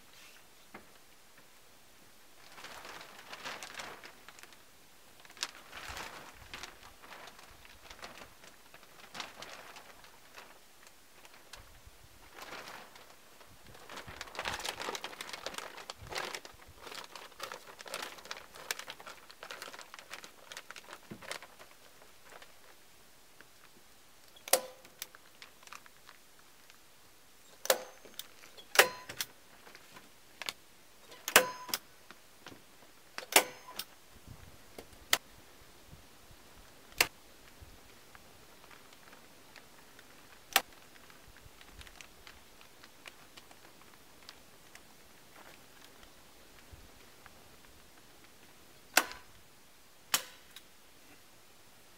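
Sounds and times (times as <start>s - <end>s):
plastic sheeting rustling: 0.0s - 49.5s.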